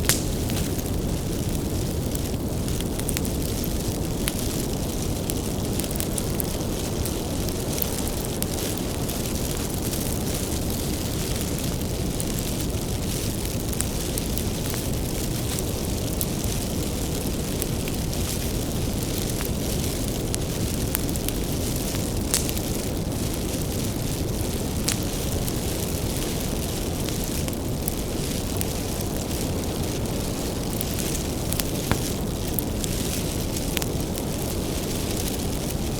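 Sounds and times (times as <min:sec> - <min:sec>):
firewood crackling and popping: 0:00.0 - 0:35.9
low rumble of flames: 0:00.0 - 0:35.9.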